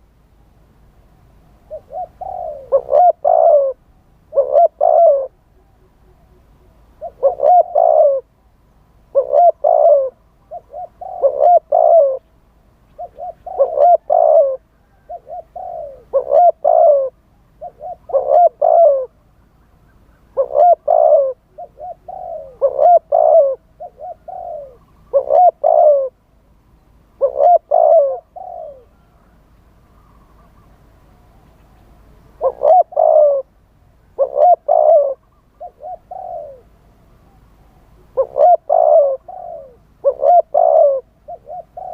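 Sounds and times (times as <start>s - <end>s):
dove cooing: 1.6s - 8.4s, 9.1s - 12.3s, 12.9s - 19.2s, 19.9s - 26.2s, 27.1s - 41.9s.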